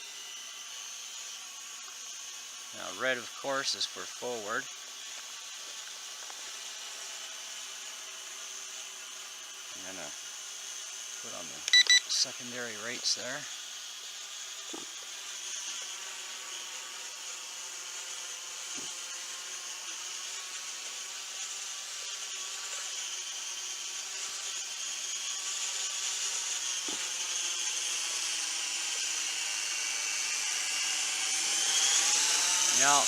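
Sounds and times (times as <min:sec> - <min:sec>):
toy drone propellers buzzing: 0:00.0 - 0:33.0.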